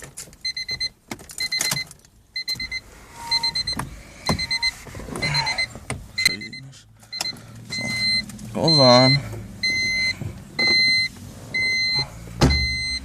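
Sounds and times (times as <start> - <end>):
car key reminder beeping: 0.4 - 13.0.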